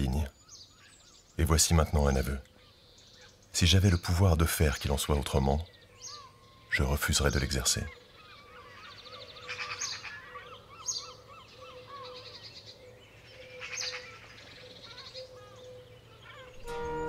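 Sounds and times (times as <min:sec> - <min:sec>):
high bird trills: 0:00.0 - 0:17.0
small birds twittering: 0:00.0 - 0:17.0.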